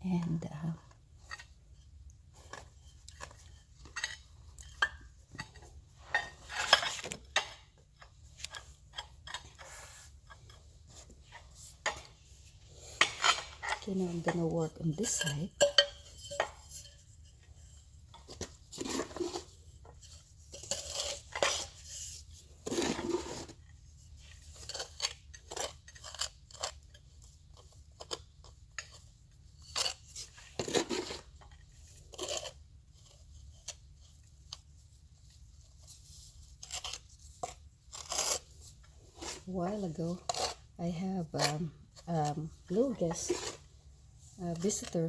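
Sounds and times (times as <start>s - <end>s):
tiling tools scraping on tile: 1.2s - 34.6s, 35.9s - 45.0s.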